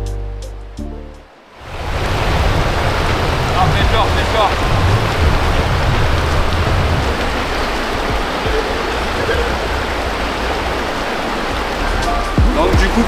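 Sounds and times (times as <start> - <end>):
water rushing over rocks: 1.4 - 13.0.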